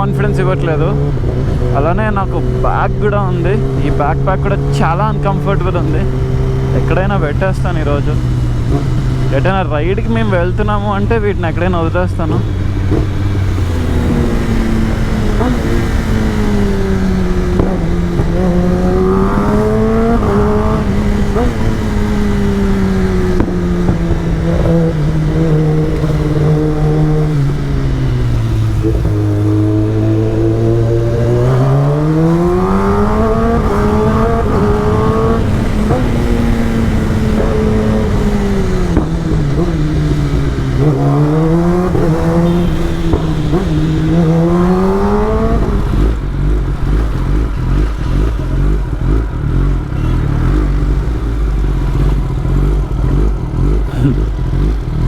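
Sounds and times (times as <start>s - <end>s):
low uneven rumble: 0.0s - 55.0s
motorcycle engine revving: 0.0s - 55.0s.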